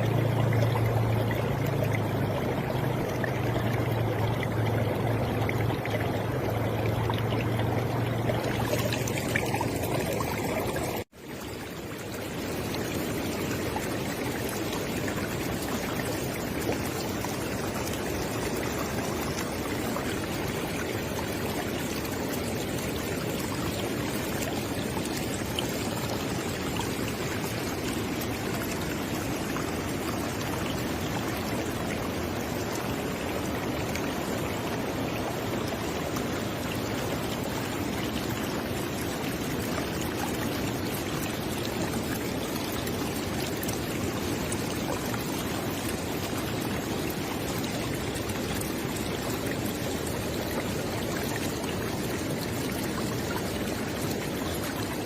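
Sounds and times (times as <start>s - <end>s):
river water rushing and gurgling: 0.0s - 55.0s
small water splashes: 0.0s - 55.0s.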